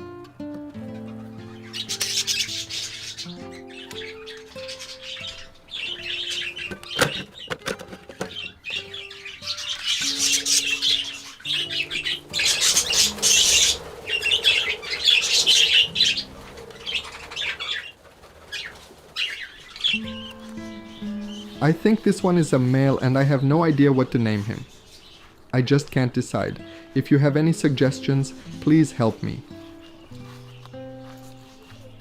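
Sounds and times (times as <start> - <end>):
soft background music: 0.0 - 32.0
budgerigars chirping and chattering: 0.8 - 32.0.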